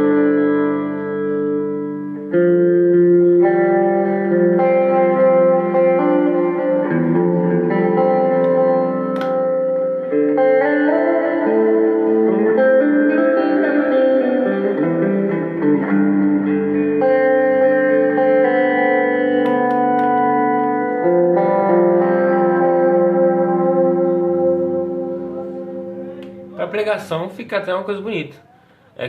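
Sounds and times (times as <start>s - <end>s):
electric guitar chords with reverb: 0.0s - 27.0s.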